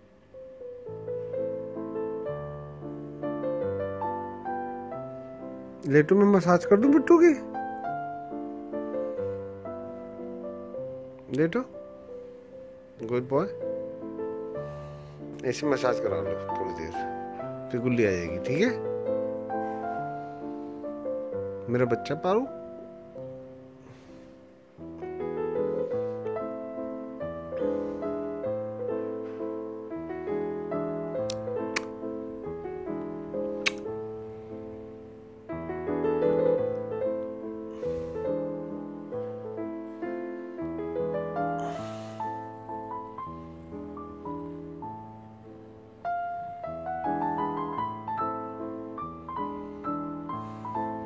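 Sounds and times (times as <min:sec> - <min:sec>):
piano music: 0:00.0 - 0:51.0.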